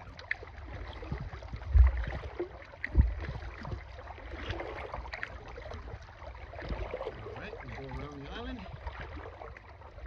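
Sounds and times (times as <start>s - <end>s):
paddle splashing in water: 0.0s - 10.0s.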